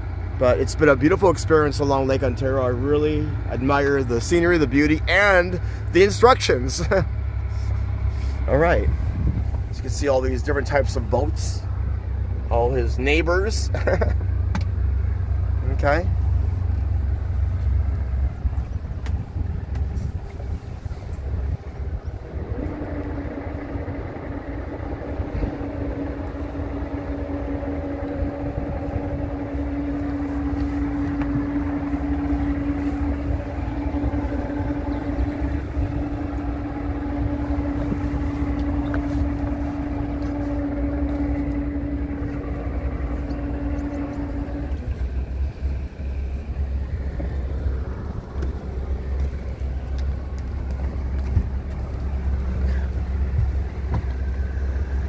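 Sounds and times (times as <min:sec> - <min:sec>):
boat engine humming: 0:00.0 - 0:55.0
wind rumbling on microphone: 0:00.0 - 0:55.0.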